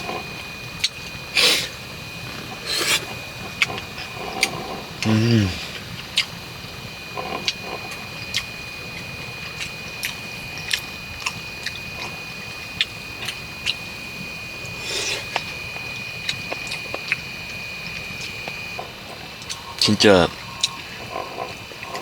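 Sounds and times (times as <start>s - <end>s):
faint high whine: 0.0s - 22.0s
person chewing: 0.1s - 6.4s, 7.2s - 22.0s.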